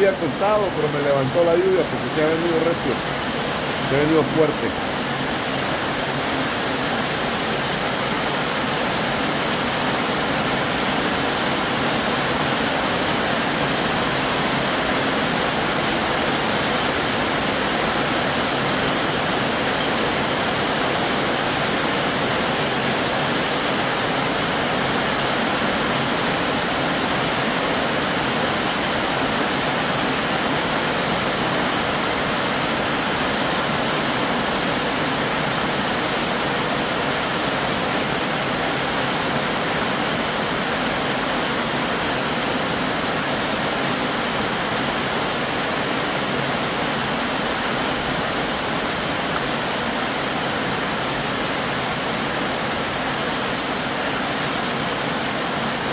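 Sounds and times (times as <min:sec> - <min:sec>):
heavy rain on a metal roof: 0:00.0 - 0:55.9.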